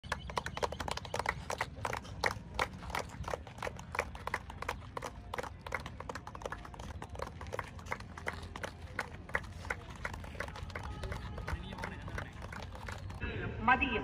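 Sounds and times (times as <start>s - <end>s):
people clapping: 0.0s - 13.2s.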